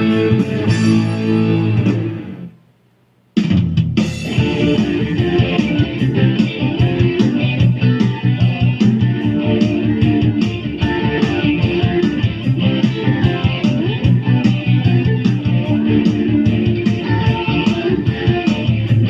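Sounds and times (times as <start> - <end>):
guitar-led instrumental music: 0.0 - 2.6, 3.4 - 19.0.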